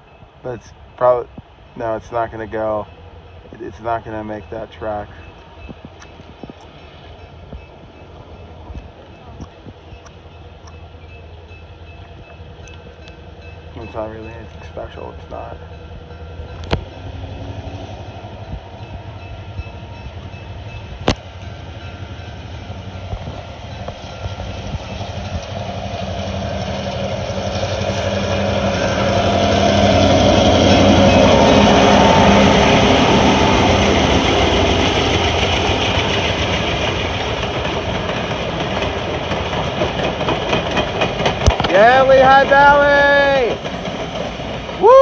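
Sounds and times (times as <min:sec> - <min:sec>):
diesel locomotive engine: 0:00.0 - 0:45.0
train wheels clacking on rails: 0:00.0 - 0:45.0.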